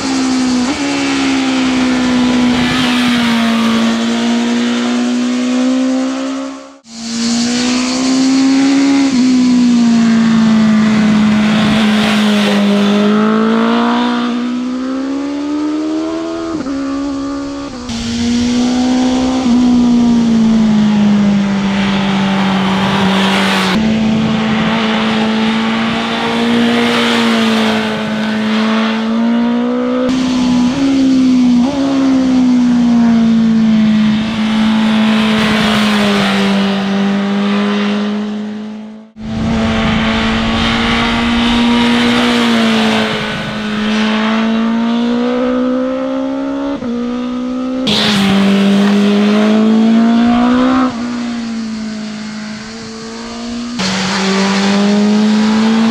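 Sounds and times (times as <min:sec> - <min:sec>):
motorcycle engine revving hard: 0:00.0 - 0:55.9.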